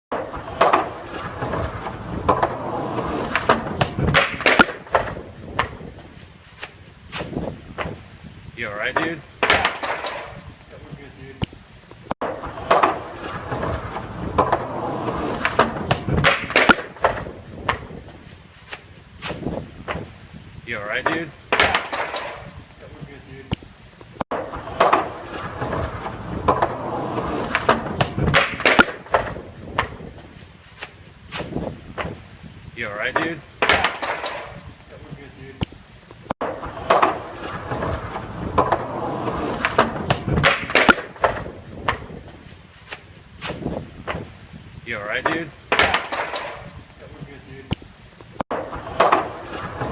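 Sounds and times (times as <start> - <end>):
rough rolling noise: 0.1 - 49.9.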